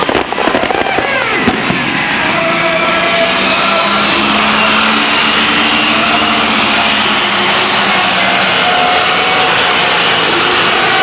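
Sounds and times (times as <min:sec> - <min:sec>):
diesel engine under full load: 0:00.0 - 0:11.0.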